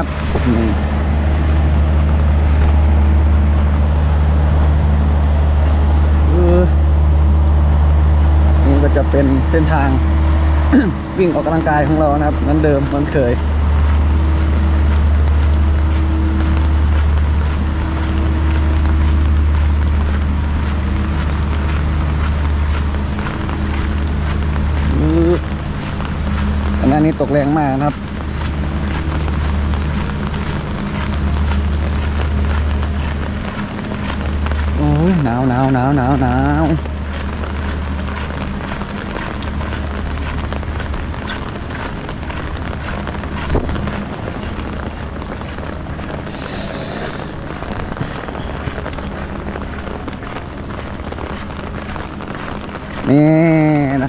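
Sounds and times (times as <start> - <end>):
generator humming: 0.0 - 54.0
rain falling: 0.0 - 54.0.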